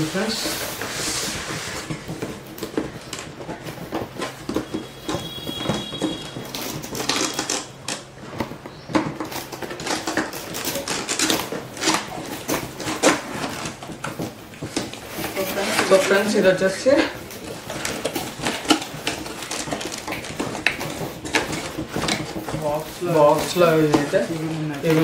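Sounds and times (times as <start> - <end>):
cardboard packaging rustling: 0.0 - 25.0.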